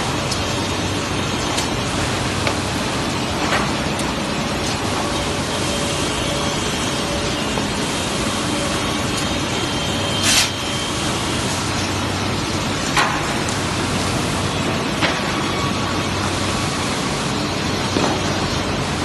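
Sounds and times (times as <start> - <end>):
woodworking machinery running: 0.0 - 19.0.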